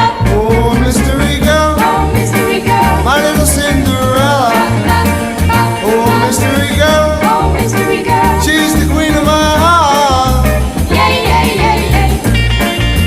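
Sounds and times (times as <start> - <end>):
rock and roll record playing: 0.0 - 13.0.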